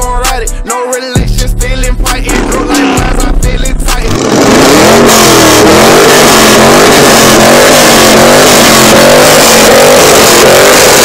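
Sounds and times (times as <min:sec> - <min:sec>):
car engine revving: 0:02.1 - 0:11.0.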